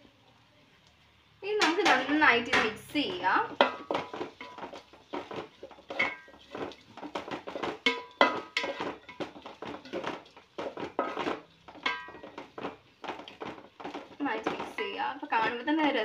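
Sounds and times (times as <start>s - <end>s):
spoon scraping metal pot: 1.6s - 15.6s.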